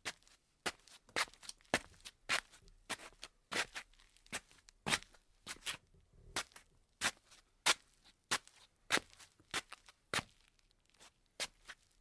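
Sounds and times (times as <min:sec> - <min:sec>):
slippers shuffling on tile floor: 0:00.1 - 0:12.0.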